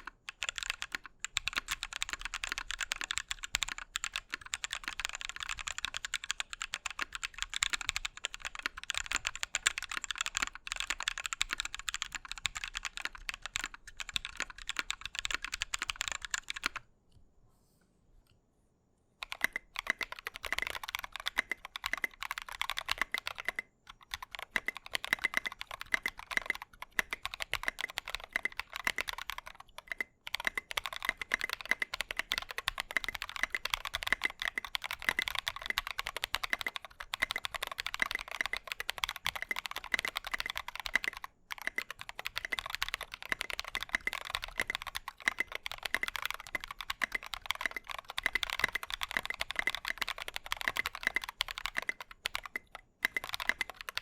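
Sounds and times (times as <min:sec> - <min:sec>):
fast typing on mechanical keyboard: 0:00.0 - 0:16.8, 0:19.2 - 0:54.0.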